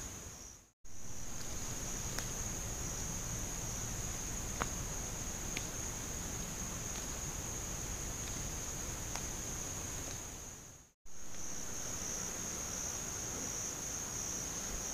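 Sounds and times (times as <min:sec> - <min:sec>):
insects chirring: 0:00.0 - 0:14.9.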